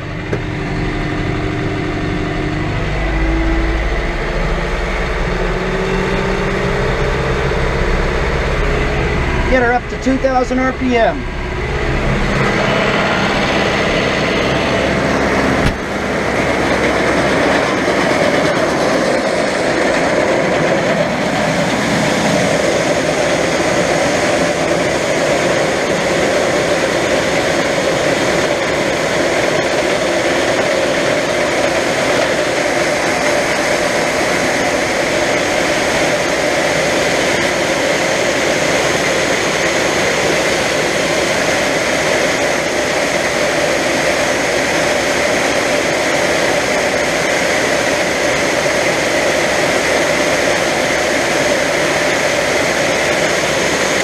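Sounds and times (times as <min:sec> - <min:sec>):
tractor diesel engine at high revs: 0:00.0 - 0:54.0.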